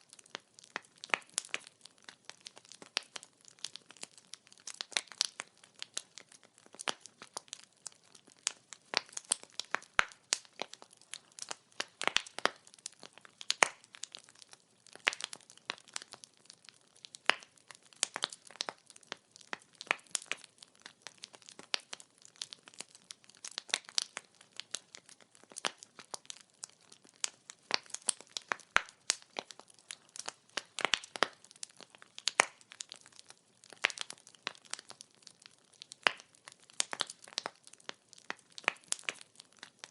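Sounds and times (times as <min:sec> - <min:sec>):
firewood crackling: 0:00.0 - 0:39.9.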